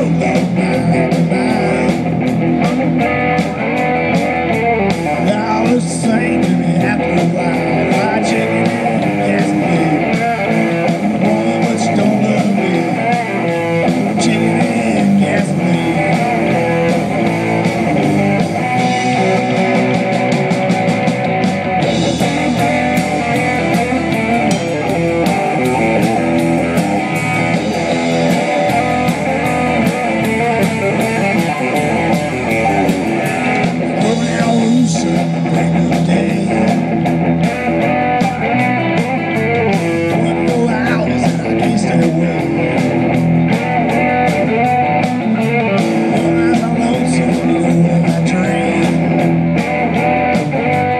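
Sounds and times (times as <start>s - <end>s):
electric guitar: 0.0s - 50.9s
live rock band playing: 0.0s - 50.9s.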